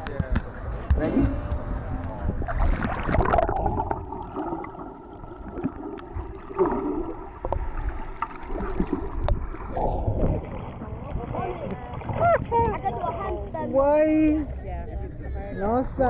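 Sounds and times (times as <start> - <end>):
water splashes: 0.0 - 14.8
sea water sloshing and gurgling: 0.6 - 14.8.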